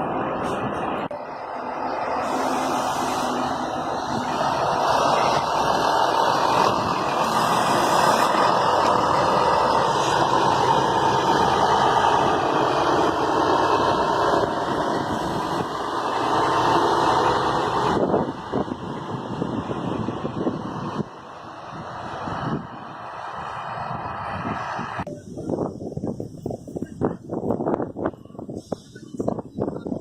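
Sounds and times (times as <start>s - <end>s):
coach engine and road noise: 0.0s - 30.0s.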